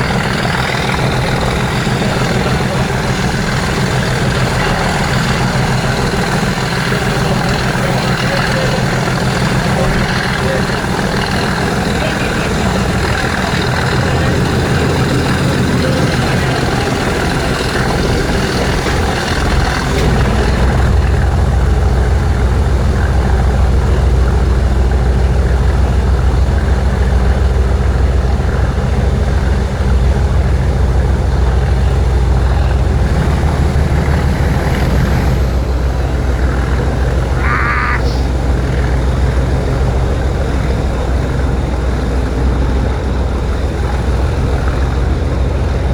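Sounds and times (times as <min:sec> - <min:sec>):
diesel locomotive engine droning: 0:00.0 - 0:45.9.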